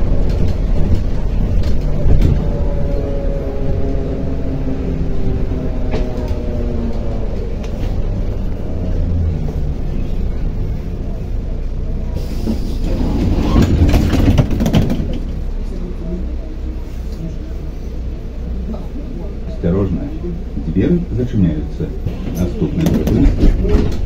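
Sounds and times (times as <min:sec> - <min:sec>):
bus engine and drivetrain whine: 0:00.0 - 0:24.0.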